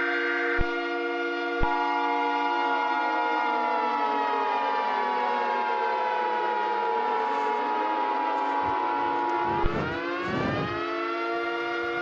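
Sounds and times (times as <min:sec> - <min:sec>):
civil defense siren wailing: 0:00.0 - 0:12.0.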